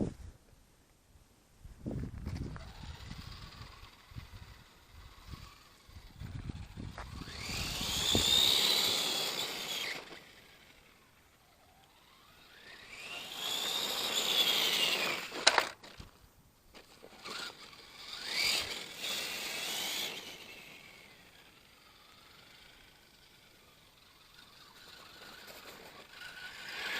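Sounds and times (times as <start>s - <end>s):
toy truck motor whining: 2.3s - 16.1s, 16.7s - 26.9s.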